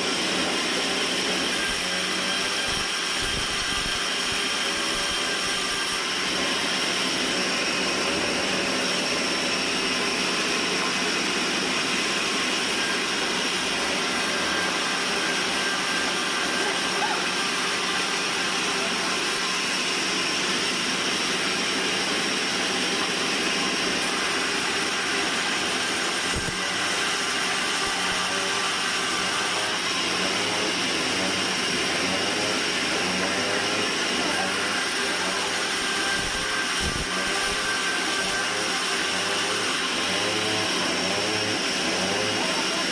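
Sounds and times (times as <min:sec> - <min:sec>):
band sawmill machinery running: 0:00.0 - 0:42.9.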